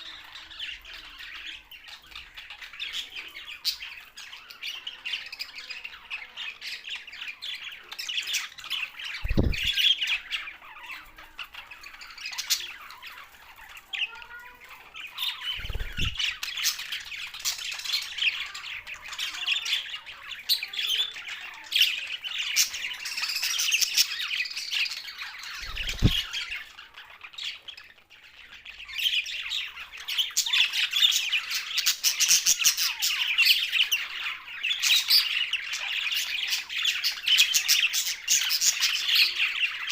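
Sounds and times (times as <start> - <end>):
budgerigars chattering: 0.0 - 14.4, 15.0 - 39.9.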